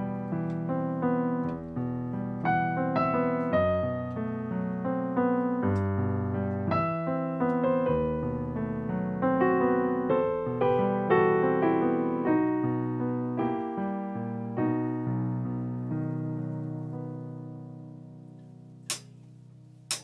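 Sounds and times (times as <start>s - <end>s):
electric piano chords: 0.0s - 20.0s.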